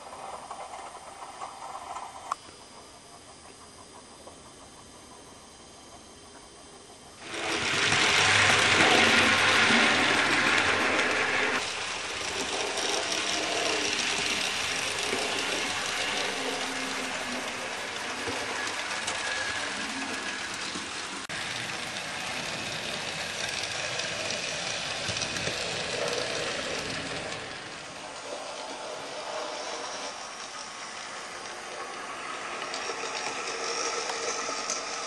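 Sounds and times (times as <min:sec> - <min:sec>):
model train whirring and clicking: 0:00.0 - 0:35.0.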